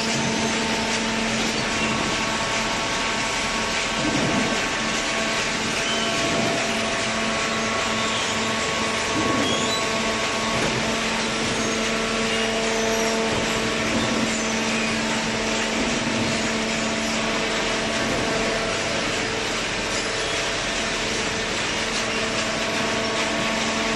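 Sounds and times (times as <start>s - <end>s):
hydraulic baler humming: 0.0s - 23.9s.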